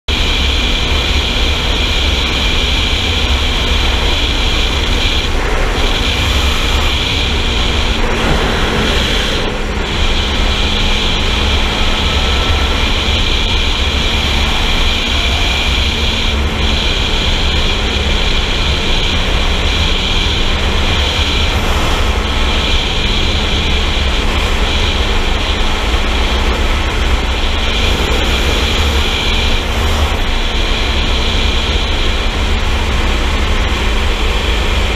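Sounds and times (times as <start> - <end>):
motorcycle engine at speed: 0.1 - 34.9
wind rush on microphone: 0.1 - 34.9.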